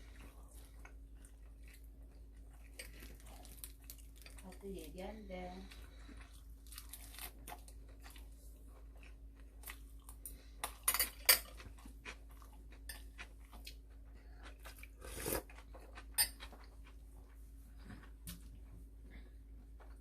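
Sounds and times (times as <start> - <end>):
people chewing: 0.0 - 20.0.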